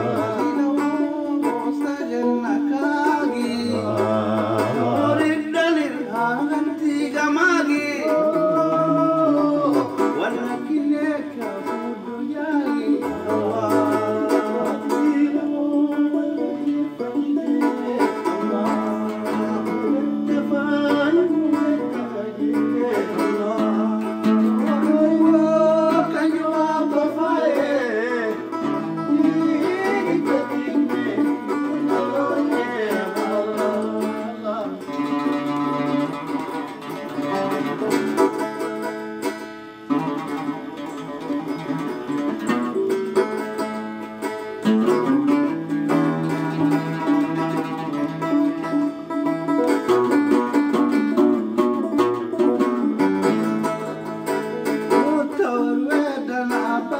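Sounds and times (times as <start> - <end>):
man singing: 0.0 - 56.9
oud: 0.0 - 56.9
plucked lyre: 0.0 - 56.9.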